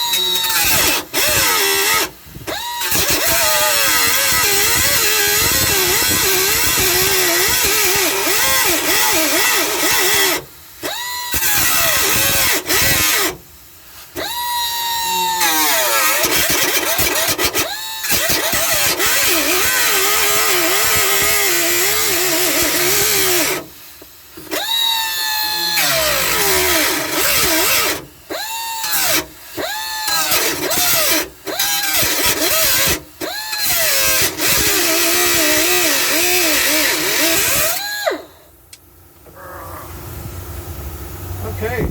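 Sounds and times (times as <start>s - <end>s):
power cutting tool cutting metal: 0.0s - 13.4s, 14.2s - 23.8s, 24.4s - 38.4s.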